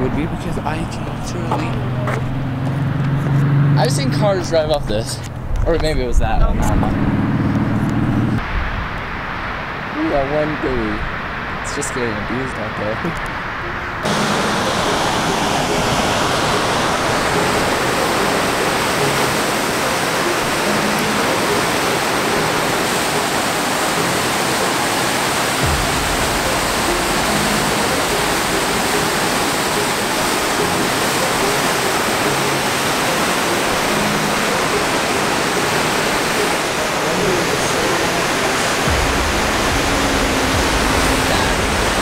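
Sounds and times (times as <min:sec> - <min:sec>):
water rushing over a weir: 0:08.4 - 0:42.0.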